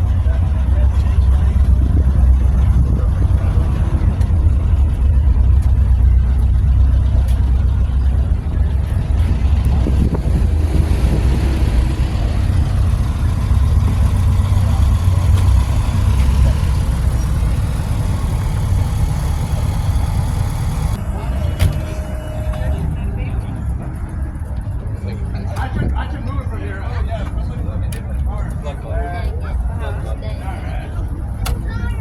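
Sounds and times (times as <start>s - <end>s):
car engines rumbling: 0.0s - 32.0s
traffic passing: 0.0s - 32.0s.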